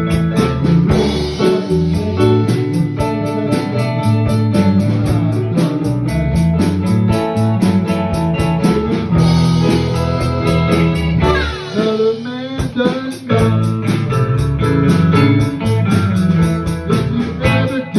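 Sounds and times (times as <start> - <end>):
blues-rock guitar with bass and drums: 0.0 - 17.9.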